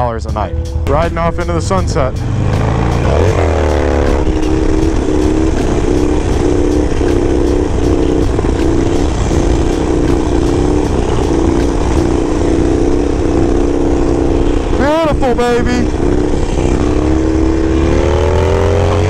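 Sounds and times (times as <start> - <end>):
motorcycle engine revving: 0.7 - 19.0.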